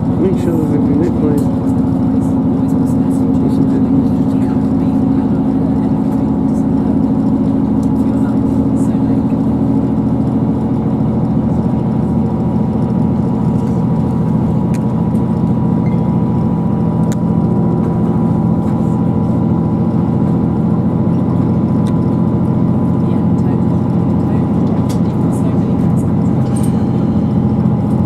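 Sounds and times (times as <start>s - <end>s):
diesel engine drone: 0.0s - 28.0s
train running noise: 0.0s - 28.0s.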